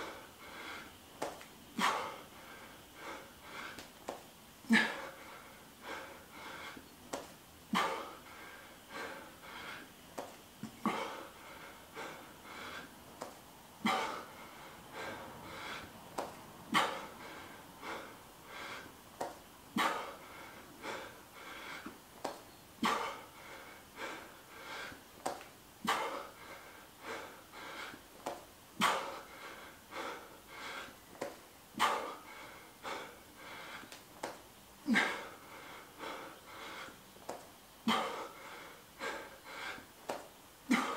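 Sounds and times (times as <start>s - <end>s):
man breathing hard: 0.0s - 40.9s.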